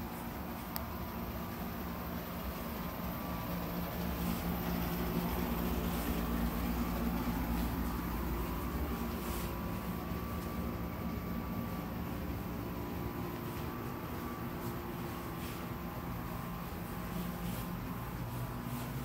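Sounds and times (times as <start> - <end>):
low mechanical machine hum: 0.0 - 19.0.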